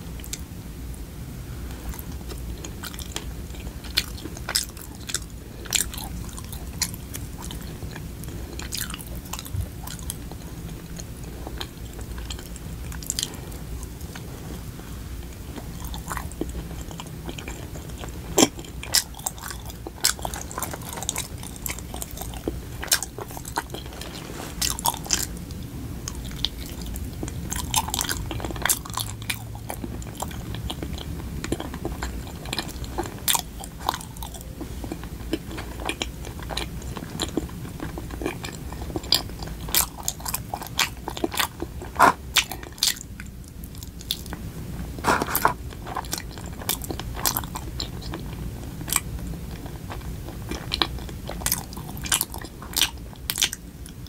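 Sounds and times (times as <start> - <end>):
low steady hum: 0.0 - 54.0
chewing sticky rice cake: 1.6 - 54.0.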